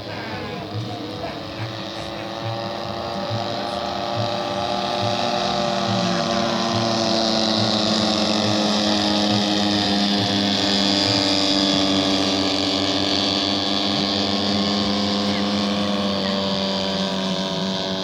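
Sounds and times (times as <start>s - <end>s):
model airplane engine running: 0.0s - 18.0s.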